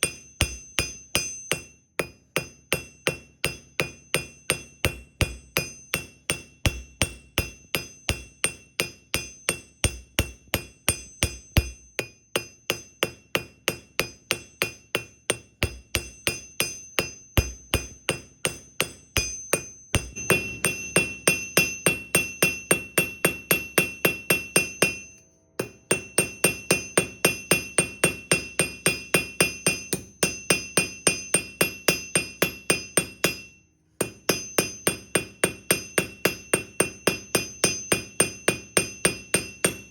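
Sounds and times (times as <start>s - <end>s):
hammer striking steel on anvil: 0.0s - 39.9s.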